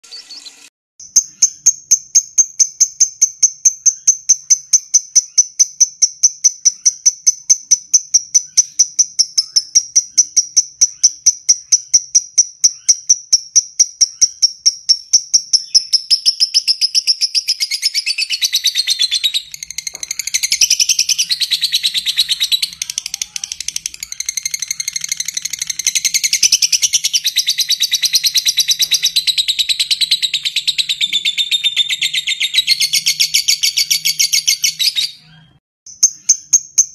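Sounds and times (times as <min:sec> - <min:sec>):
lovebird ticking chirps: 0:01.0 - 0:35.0, 0:35.9 - 0:36.9.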